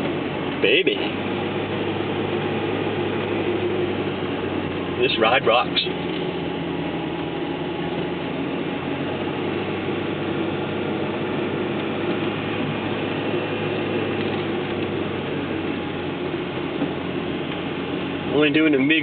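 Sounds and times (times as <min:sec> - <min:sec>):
car engine humming: 0:00.0 - 0:19.0
tyre and road noise: 0:00.0 - 0:19.0.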